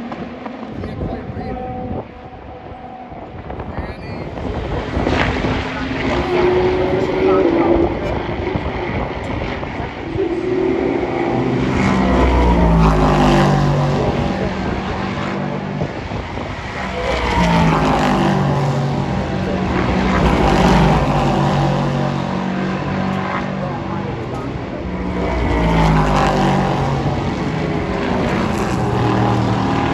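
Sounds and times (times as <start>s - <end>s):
race cars passing: 0.0s - 29.9s.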